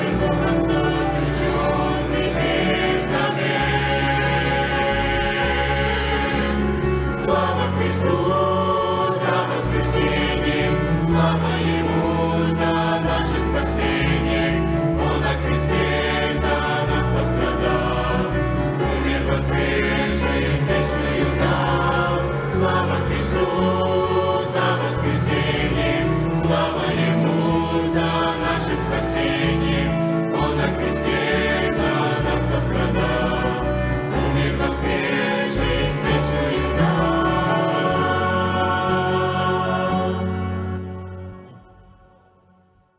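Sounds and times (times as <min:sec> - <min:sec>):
choir singing a hymn: 0:00.0 - 0:42.5.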